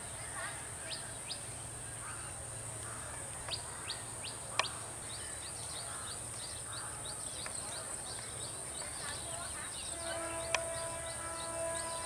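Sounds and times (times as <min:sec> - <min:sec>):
faint distant voices: 0:00.0 - 0:12.0
small birds chirping: 0:00.0 - 0:12.0.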